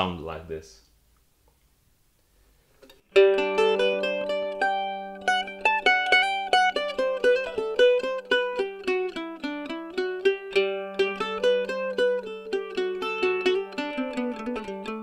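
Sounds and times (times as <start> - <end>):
mandolin playing: 2.9 - 15.0.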